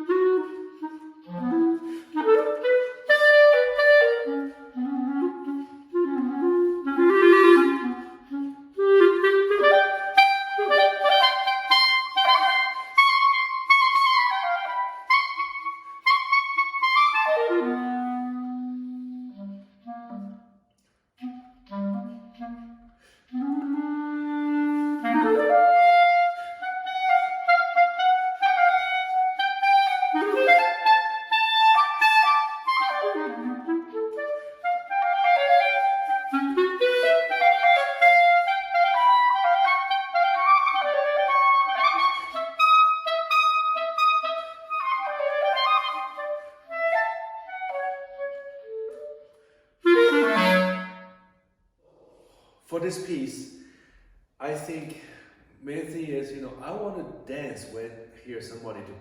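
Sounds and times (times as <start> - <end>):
solo clarinet playing: 0.0 - 51.4.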